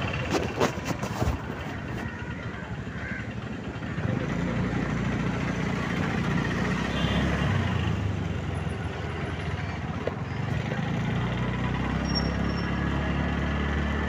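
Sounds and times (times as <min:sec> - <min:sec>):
motorbike engine running: 0:00.0 - 0:11.9
road and wind noise: 0:00.0 - 0:14.0.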